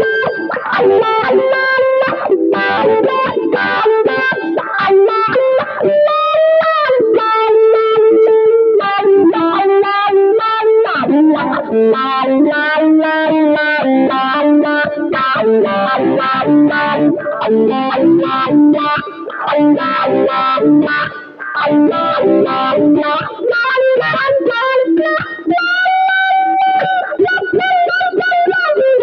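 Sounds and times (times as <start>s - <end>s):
electric guitar lead melody: 0.0s - 29.0s.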